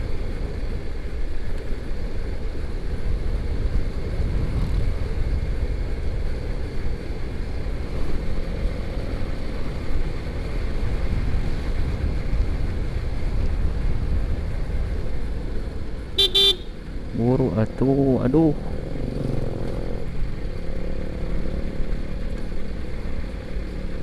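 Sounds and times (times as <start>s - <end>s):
motorcycle engine and road noise: 0.0s - 24.0s.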